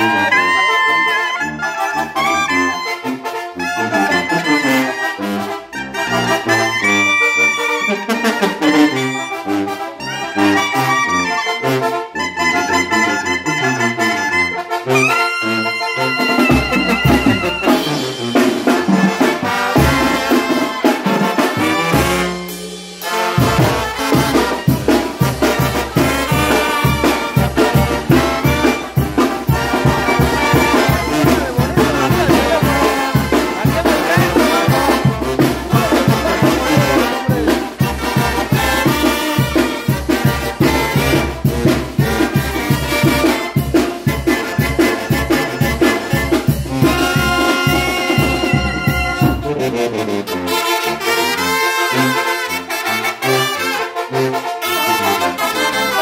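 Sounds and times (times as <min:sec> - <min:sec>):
drum kit and congas: 0:00.0 - 0:53.6
brass band playing: 0:00.0 - 0:56.0.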